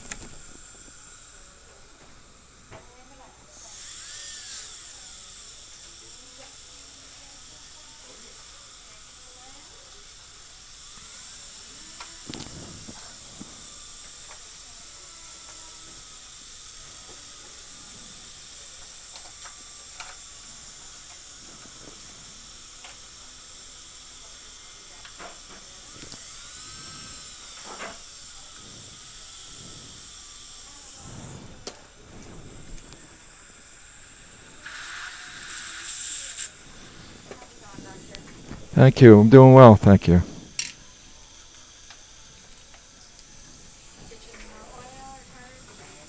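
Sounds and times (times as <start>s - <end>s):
dental drill whining: 0.0s - 38.8s, 40.2s - 46.0s.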